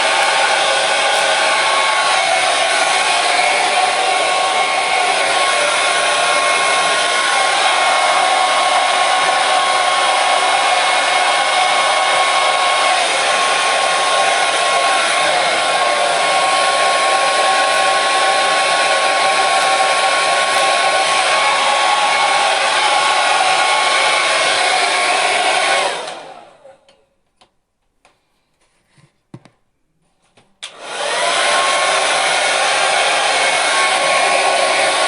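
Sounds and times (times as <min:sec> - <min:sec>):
hair dryer blowing: 0:00.0 - 0:26.8, 0:30.6 - 0:35.0.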